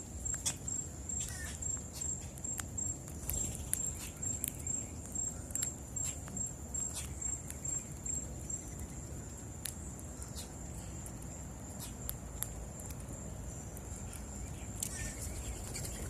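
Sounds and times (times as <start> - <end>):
insect trill: 0.0 - 16.0
bird clicks and chips: 0.2 - 16.0.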